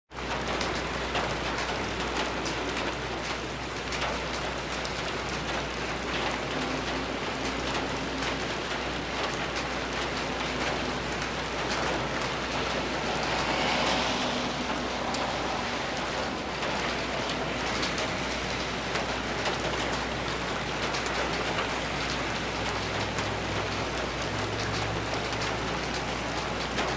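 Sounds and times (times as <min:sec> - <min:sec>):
rain falling on a porch: 0:00.1 - 0:26.9.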